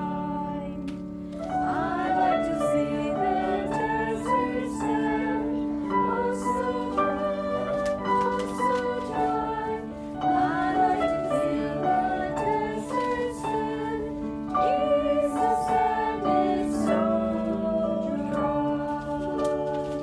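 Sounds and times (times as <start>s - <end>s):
children's song with instruments: 0.0s - 20.0s.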